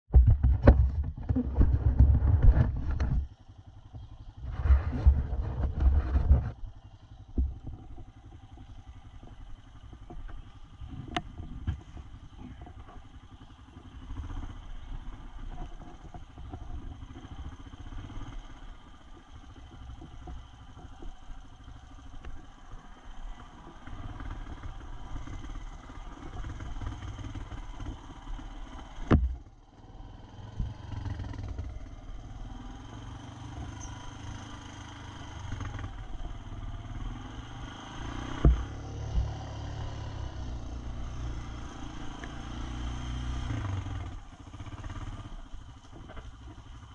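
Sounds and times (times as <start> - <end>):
atv engine running: 0.1 - 46.9.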